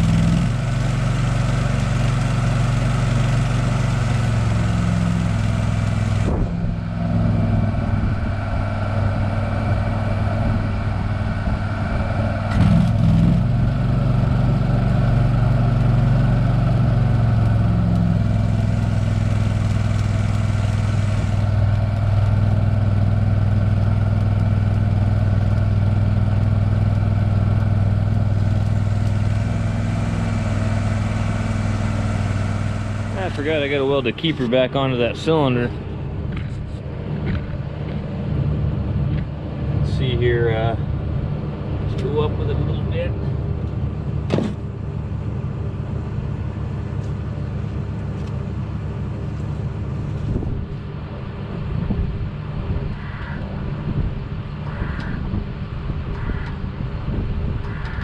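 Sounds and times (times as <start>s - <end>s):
backhoe engine idling: 0.0s - 58.0s.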